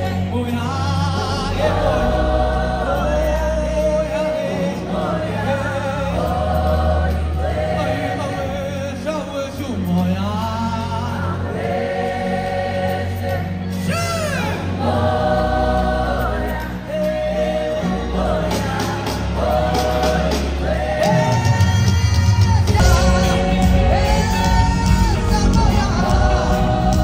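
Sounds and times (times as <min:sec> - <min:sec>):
gospel choir singing with band: 0:00.0 - 0:27.0.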